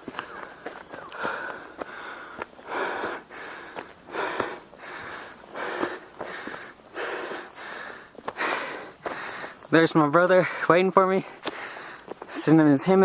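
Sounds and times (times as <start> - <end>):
heavy breathing: 0.0 - 9.7, 10.4 - 12.5
footsteps on trail: 0.0 - 13.0.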